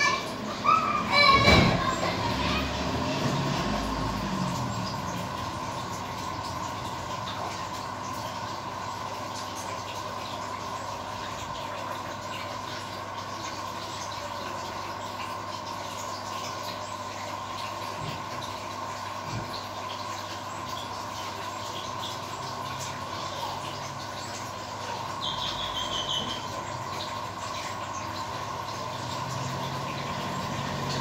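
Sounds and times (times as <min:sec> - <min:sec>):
aeration pump humming: 0:00.0 - 0:31.0.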